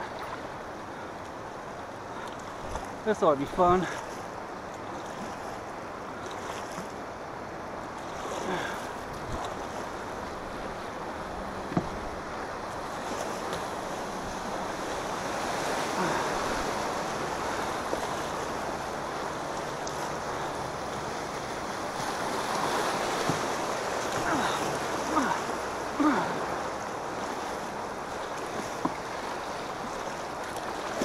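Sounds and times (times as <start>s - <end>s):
rushing river rapids: 0.0s - 31.0s.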